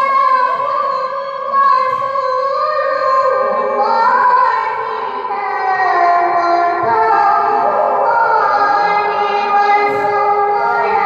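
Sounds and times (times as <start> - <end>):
woman reciting melodically: 0.0 - 11.0.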